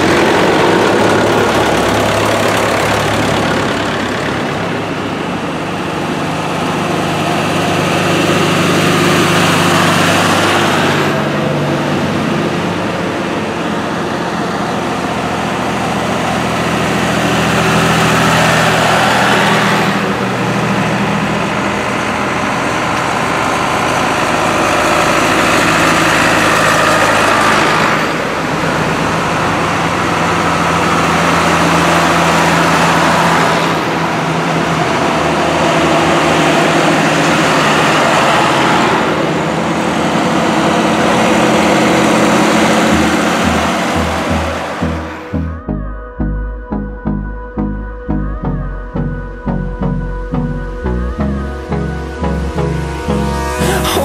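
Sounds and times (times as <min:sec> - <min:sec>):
tractors driving past: 0:00.0 - 0:46.2, 0:48.2 - 0:54.0.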